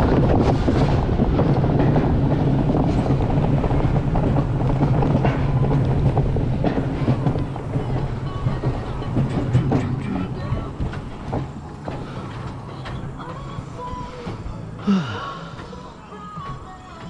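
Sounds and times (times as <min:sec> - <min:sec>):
wind buffeting microphone: 0:00.0 - 0:15.7
coaster wheels rumbling on rail: 0:00.0 - 0:17.0.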